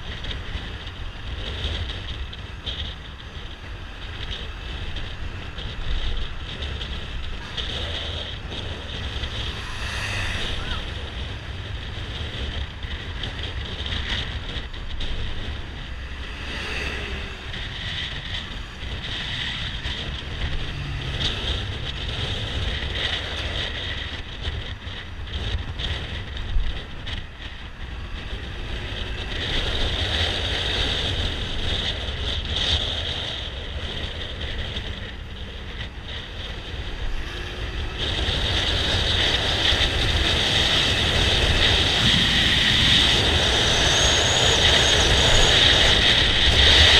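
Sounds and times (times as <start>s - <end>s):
scooter engine and tyres: 0.0s - 46.9s
traffic passing: 0.0s - 46.9s
wind buffeting microphone: 0.0s - 46.9s.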